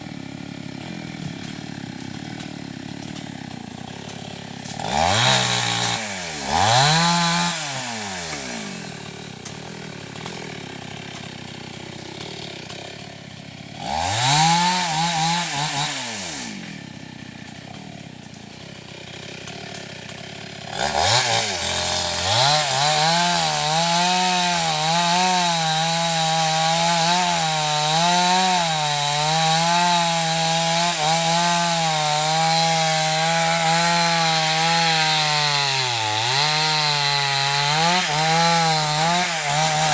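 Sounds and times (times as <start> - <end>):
chainsaw cutting wood: 0.0 - 39.9
chainsaw revving and idling: 0.0 - 39.9.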